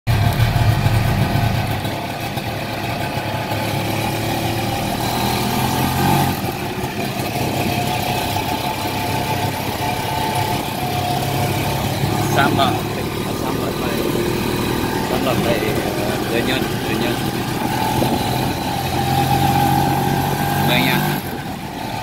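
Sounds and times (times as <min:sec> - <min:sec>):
small motorcycle engine running: 0:00.1 - 0:22.0.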